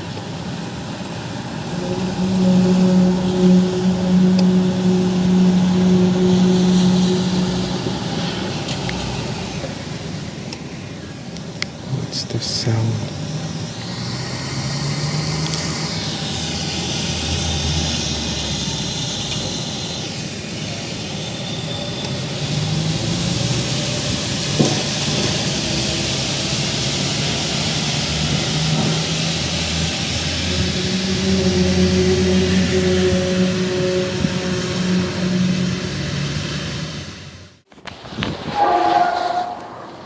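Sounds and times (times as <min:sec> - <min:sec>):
low droning hum: 0:00.0 - 0:20.4, 0:22.8 - 0:37.7.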